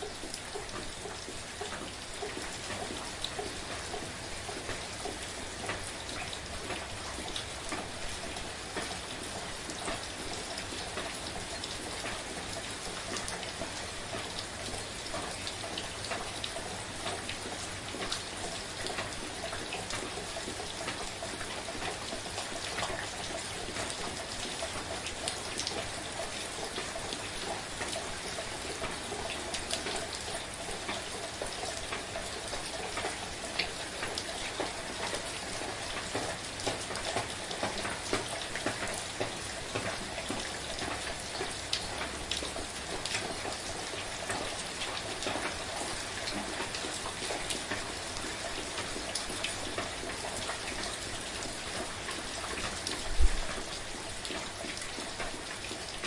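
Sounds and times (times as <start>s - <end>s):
soft rain falling: 0.0s - 56.0s.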